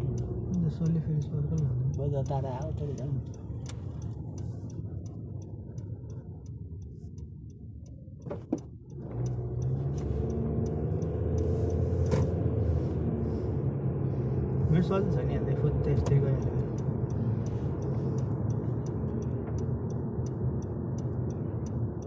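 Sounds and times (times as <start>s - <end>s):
car engine and road rumble: 0.0s - 22.0s
regular ticking: 0.0s - 22.0s.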